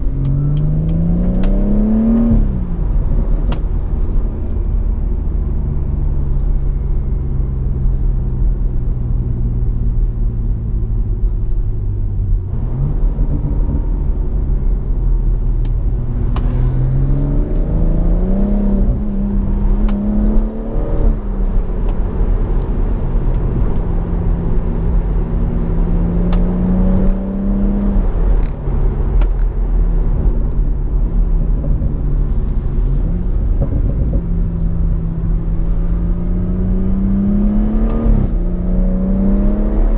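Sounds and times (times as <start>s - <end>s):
car engine from inside cabin: 0.0s - 39.9s.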